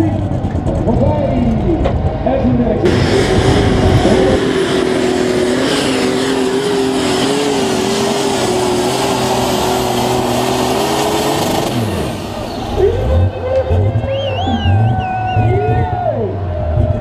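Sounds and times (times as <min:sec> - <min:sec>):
deep rumble: 0:00.0 - 0:17.0
engine running at high revs: 0:00.0 - 0:17.0.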